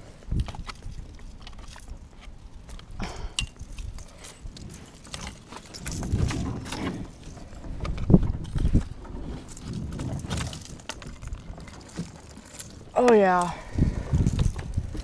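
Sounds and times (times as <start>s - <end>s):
dry branches crackling: 0.0s - 15.0s.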